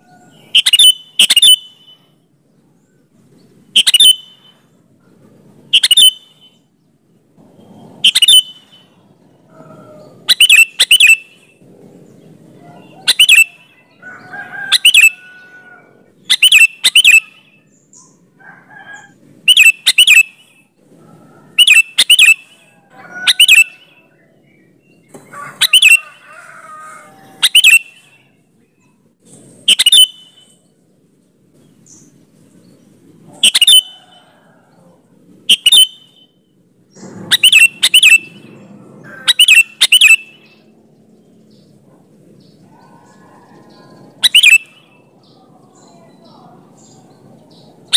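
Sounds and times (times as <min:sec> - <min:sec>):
bulbul calling: 0:00.2 - 0:02.1, 0:03.7 - 0:04.6, 0:05.7 - 0:06.7, 0:08.0 - 0:18.2, 0:19.0 - 0:20.7, 0:21.5 - 0:29.0, 0:29.6 - 0:30.6, 0:31.6 - 0:47.9.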